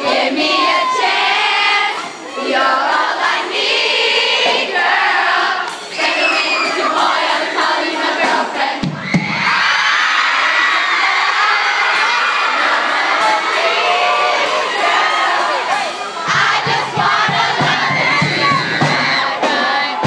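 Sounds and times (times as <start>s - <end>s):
live pop music: 0.0s - 9.0s, 10.4s - 20.0s
crowd singing along: 0.0s - 20.0s.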